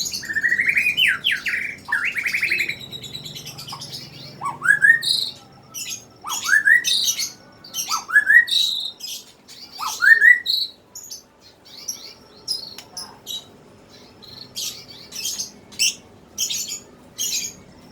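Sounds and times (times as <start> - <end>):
songbird singing: 0.0 - 17.9.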